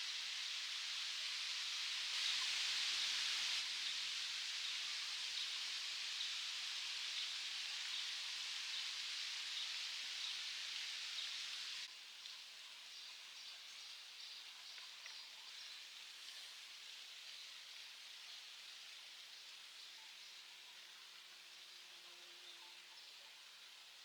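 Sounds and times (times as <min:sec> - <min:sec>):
outdoor ambient hiss: 0:00.0 - 0:24.0.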